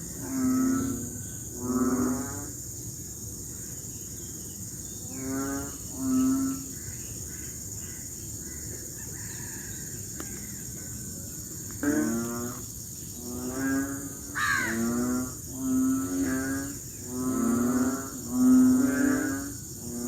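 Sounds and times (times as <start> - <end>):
frogs calling: 0.0 - 20.0.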